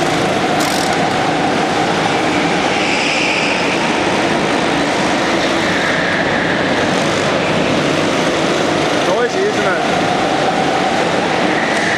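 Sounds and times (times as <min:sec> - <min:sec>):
go-kart engines droning: 0:00.0 - 0:11.9.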